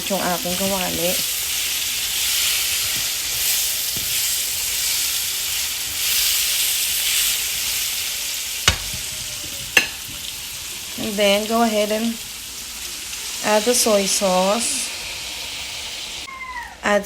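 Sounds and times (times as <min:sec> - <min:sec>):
vegetables sizzling in oil: 0:00.0 - 0:16.3.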